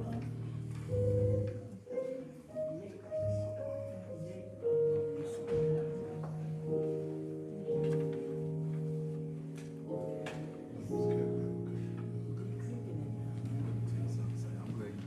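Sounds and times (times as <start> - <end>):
slow instrumental music: 0.0 - 15.0.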